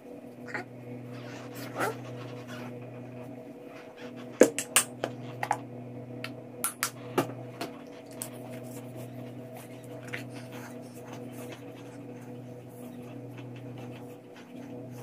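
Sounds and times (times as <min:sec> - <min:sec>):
appliance humming: 0:00.0 - 0:15.0.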